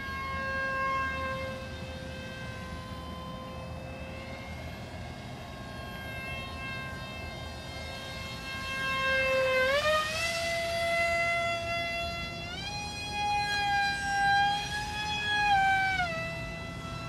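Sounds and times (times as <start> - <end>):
model airplane motor whine: 0.0 - 17.0.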